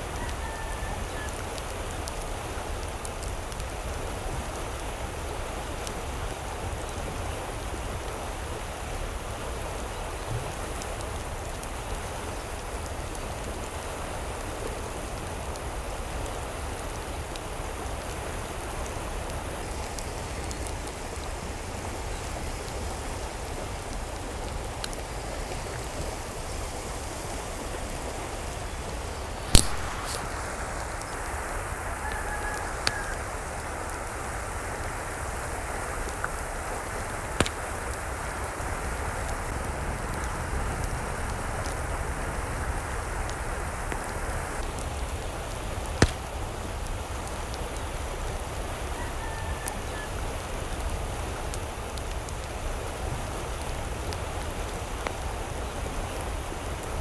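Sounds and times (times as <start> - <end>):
hiss of water: 0.0 - 57.0.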